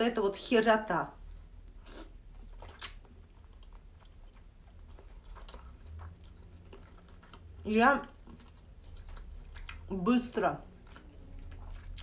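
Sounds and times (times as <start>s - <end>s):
wet mouth chewing: 1.2s - 12.0s.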